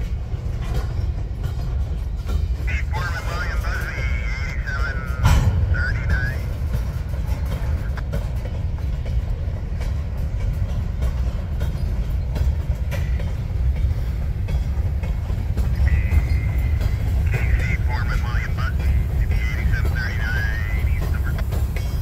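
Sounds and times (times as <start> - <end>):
freight train rumbling past: 0.0 - 22.0
wheels clicking over rails: 0.0 - 22.0.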